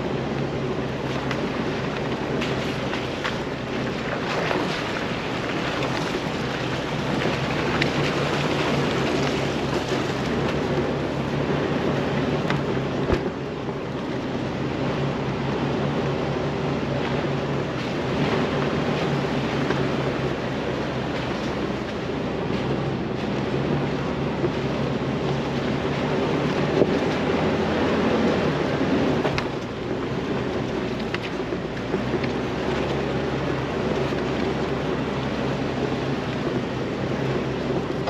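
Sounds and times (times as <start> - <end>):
car engine running: 0.0 - 38.0.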